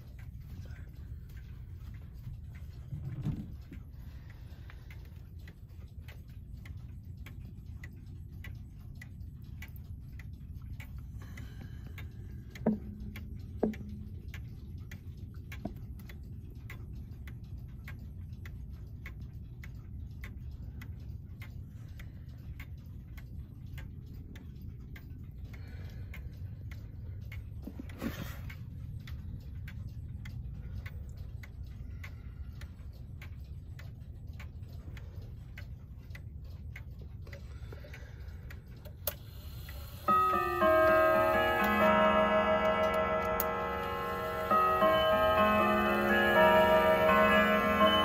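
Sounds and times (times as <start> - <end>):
wall clock ticking: 0.0 - 48.0.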